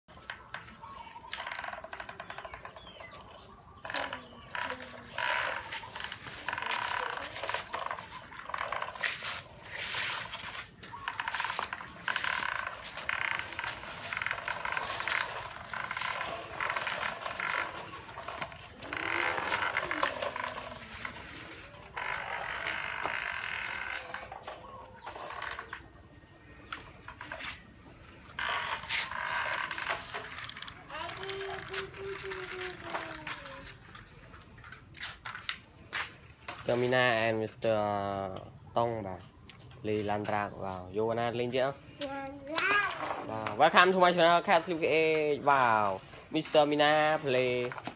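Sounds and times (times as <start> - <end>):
toy trucks scraping over dirt: 0.1 - 37.7, 42.5 - 47.9.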